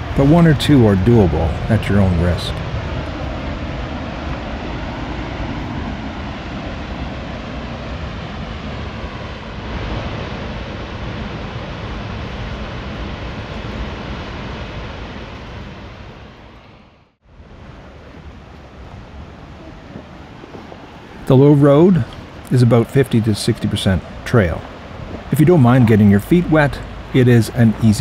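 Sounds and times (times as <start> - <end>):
wind buffeting microphone: 0.0 - 16.6, 17.3 - 28.0
waterfall roaring: 0.0 - 28.0.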